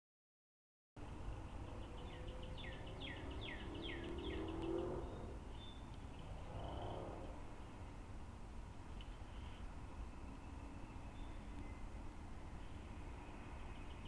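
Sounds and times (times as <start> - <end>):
outdoor background: 1.0 - 14.0.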